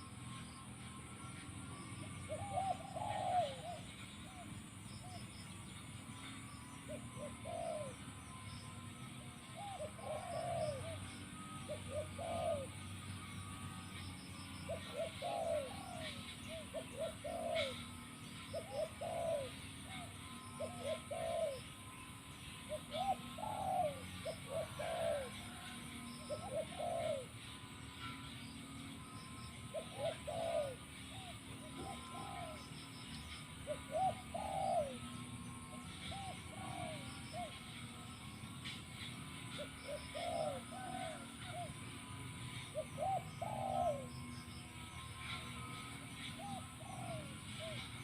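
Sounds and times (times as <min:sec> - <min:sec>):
dove cooing: 0:00.0 - 0:48.0.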